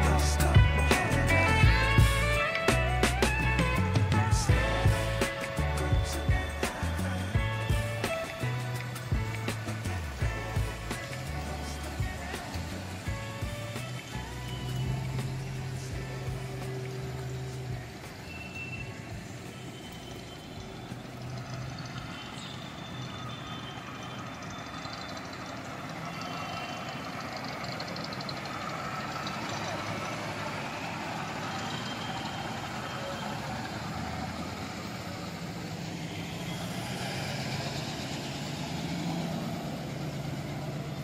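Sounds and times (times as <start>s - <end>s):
car engines driving past: 0.0s - 41.0s.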